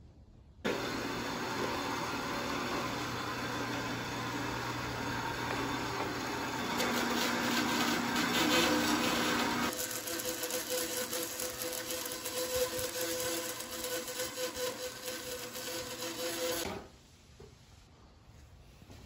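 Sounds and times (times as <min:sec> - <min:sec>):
band saw cutting metal tubing: 0:00.7 - 0:16.8.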